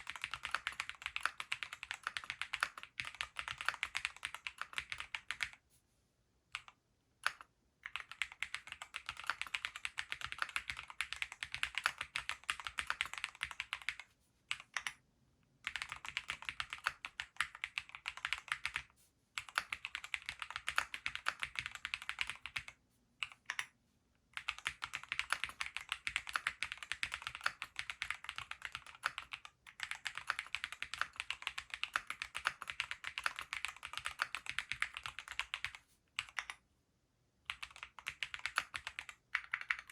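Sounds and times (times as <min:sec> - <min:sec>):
mechanical keyboard typing: 0:00.0 - 0:05.6, 0:06.5 - 0:15.0, 0:15.6 - 0:23.7, 0:24.4 - 0:36.6, 0:37.5 - 0:39.9.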